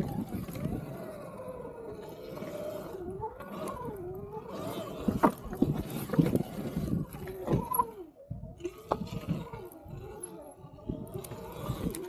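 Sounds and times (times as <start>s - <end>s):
electric dirt bike motor whining: 0.0s - 12.0s.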